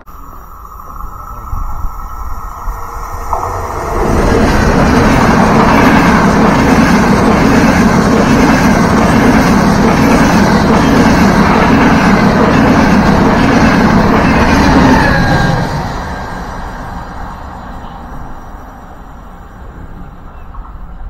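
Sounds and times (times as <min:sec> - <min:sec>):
high-speed train rushing past: 0:00.0 - 0:21.0.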